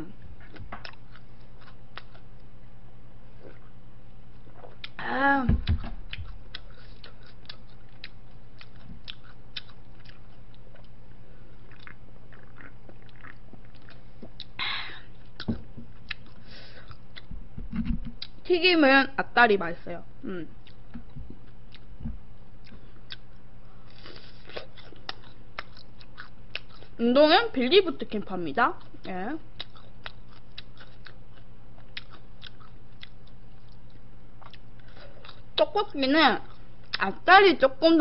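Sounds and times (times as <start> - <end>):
low electrical hum: 0.0 - 38.0
person chewing food: 0.4 - 2.6, 3.2 - 5.0, 5.6 - 18.4, 20.6 - 27.0, 28.8 - 35.6, 36.4 - 37.0.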